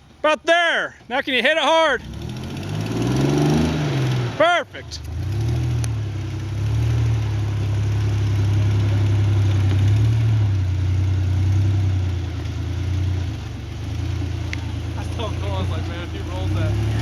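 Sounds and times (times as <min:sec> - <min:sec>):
engine running at low revs: 0:02.0 - 0:17.0.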